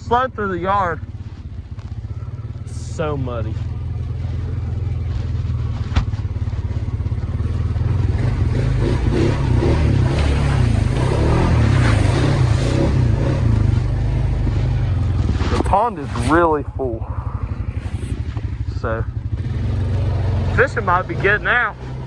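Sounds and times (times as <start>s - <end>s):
atv engine revving in mud: 0.0s - 22.0s.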